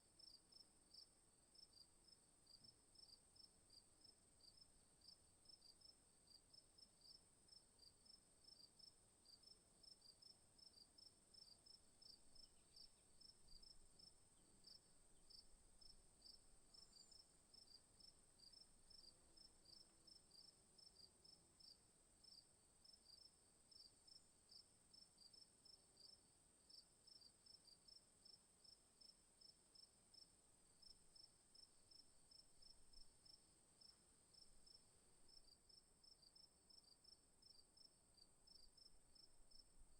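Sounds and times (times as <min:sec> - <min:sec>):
cricket-like chirps: 0:00.2 - 0:39.9.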